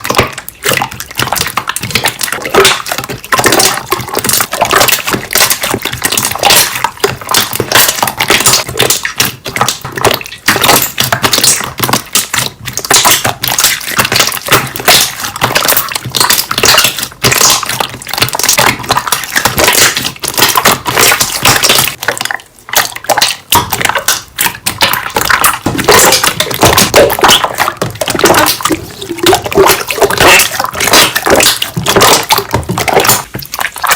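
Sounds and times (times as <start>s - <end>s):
wet popping air bubbles: 0.0s - 33.9s.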